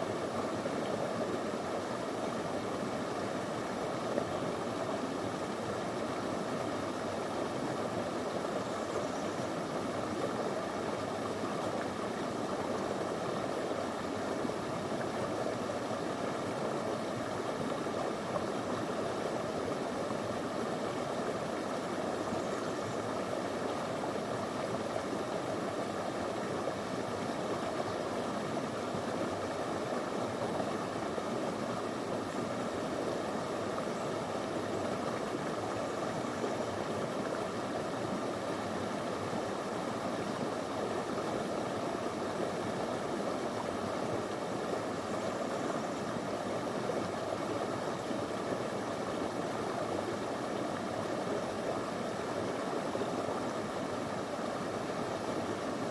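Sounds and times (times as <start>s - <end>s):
stream flowing over stones: 0.0s - 55.9s.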